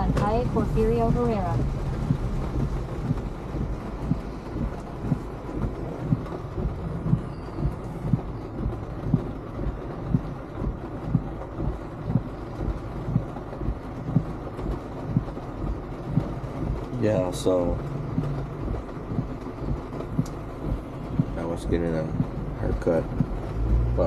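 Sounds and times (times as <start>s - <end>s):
rain hissing: 0.0s - 24.0s
road and engine rumble: 0.0s - 24.0s.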